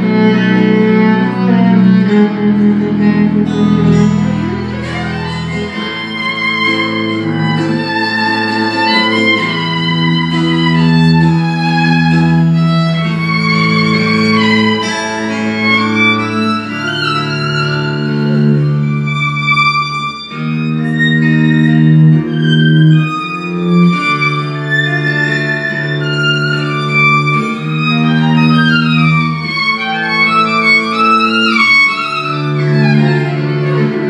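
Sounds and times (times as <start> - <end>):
fiddle playing long notes: 0.0 - 34.0
low bass line: 0.0 - 34.0.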